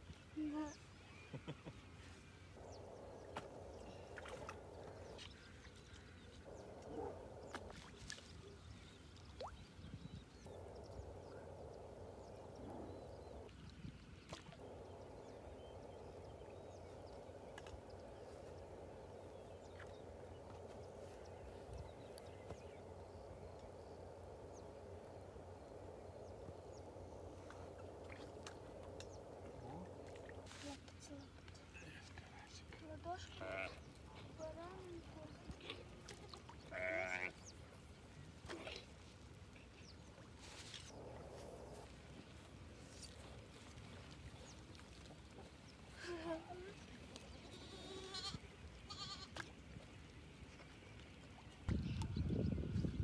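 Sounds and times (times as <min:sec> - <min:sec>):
low hiss and hum: 0:00.0 - 0:53.0.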